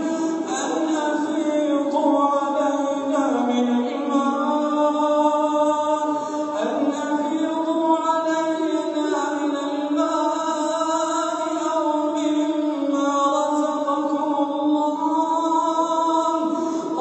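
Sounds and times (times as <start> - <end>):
person chanting melodically: 0.0 - 17.0.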